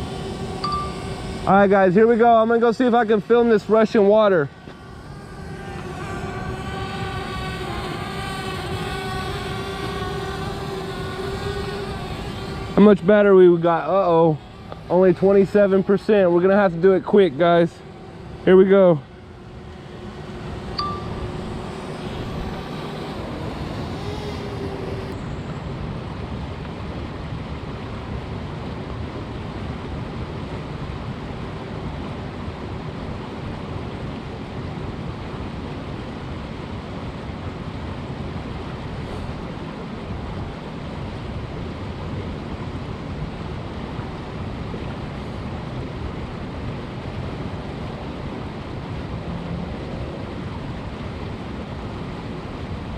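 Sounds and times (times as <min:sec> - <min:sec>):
faint hum: 0:00.0 - 0:52.9
fast-flowing river water: 0:00.0 - 0:52.9.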